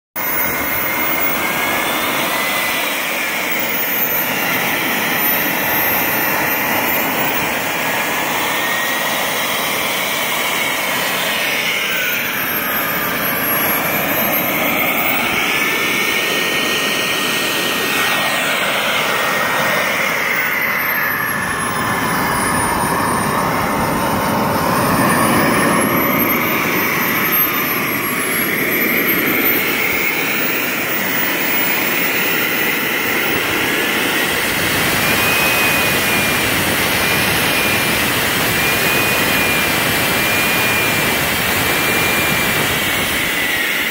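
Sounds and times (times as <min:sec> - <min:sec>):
jet turbine whining: 0:00.2 - 0:43.9.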